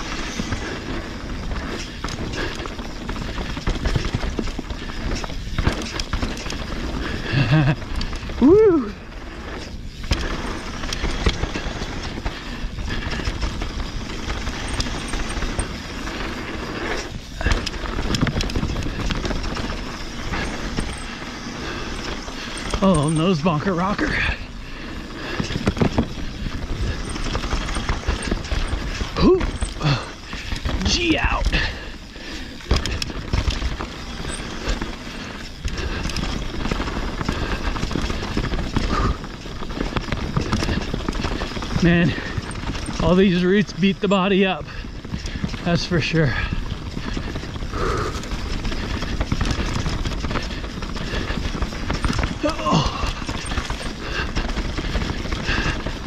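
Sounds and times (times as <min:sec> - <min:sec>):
bike rattling and clicking: 0:00.0 - 0:56.0
tyre and wind rush: 0:00.0 - 0:56.0.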